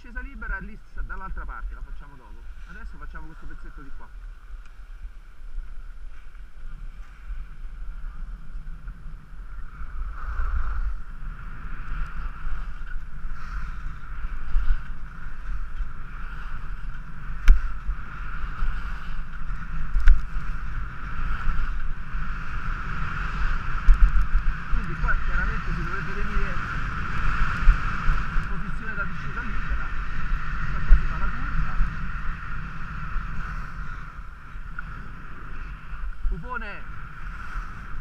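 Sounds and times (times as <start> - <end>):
wind buffeting microphone: 0.0 - 38.0
skis scraping over snow: 0.1 - 38.0.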